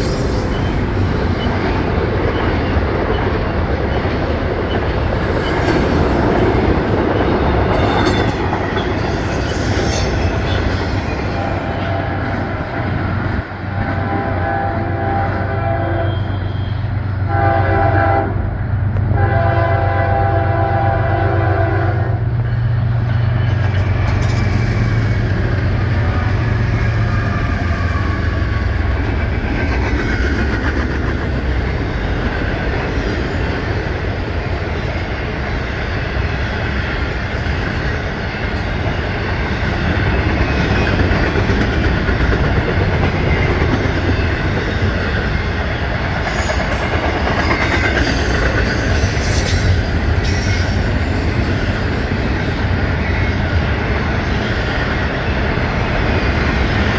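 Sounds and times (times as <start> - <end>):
train wheels clattering on rails: 0.0 - 15.6, 22.3 - 56.9
diesel locomotive rumble: 0.0 - 56.9
rush of passing train cars: 0.0 - 56.9.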